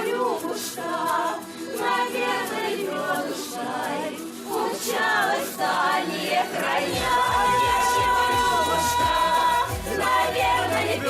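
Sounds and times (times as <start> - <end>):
women singing in harmony: 0.0 - 11.0.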